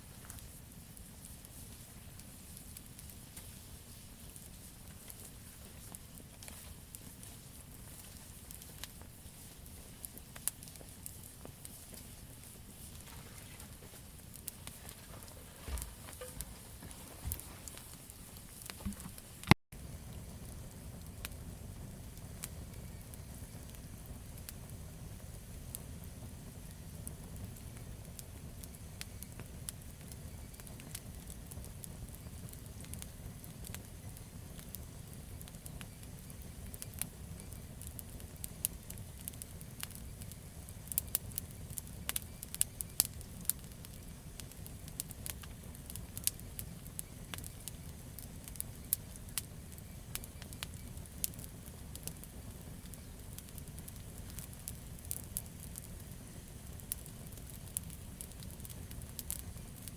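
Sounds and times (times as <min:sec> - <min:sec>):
fire crackling pops and snaps: 0:00.0 - 0:59.9
low rumble of flame: 0:00.0 - 0:59.9.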